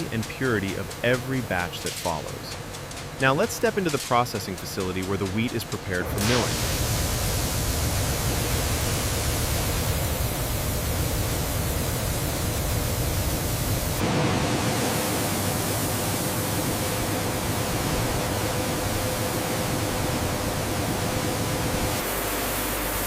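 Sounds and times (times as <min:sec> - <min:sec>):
steady hum: 0:00.0 - 0:23.0
wheat-processing machinery running: 0:00.0 - 0:23.0.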